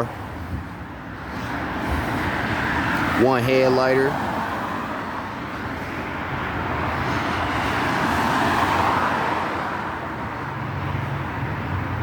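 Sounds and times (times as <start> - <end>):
car passing by: 1.2 - 12.0.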